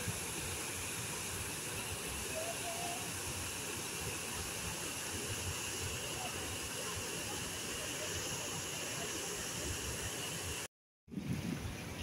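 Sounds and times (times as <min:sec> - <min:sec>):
fountain water rushing and splashing: 0:00.0 - 0:10.7.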